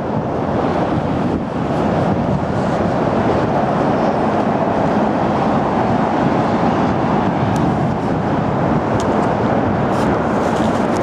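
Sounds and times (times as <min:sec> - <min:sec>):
road traffic roar: 0:00.0 - 0:11.0
wind buffeting microphone: 0:00.0 - 0:11.0.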